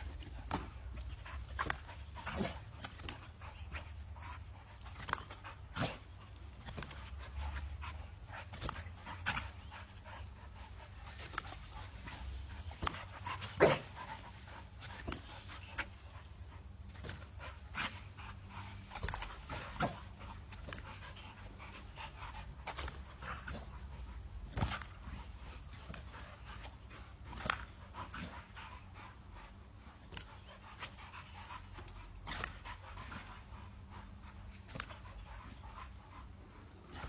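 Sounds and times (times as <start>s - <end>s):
dogs panting: 0.0s - 37.0s
low steady rumble: 0.0s - 37.0s.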